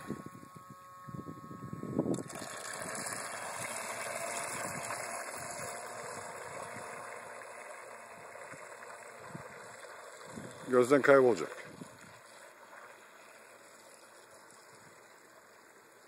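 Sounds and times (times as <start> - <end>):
boat electric motor and propeller: 0.0 - 16.0.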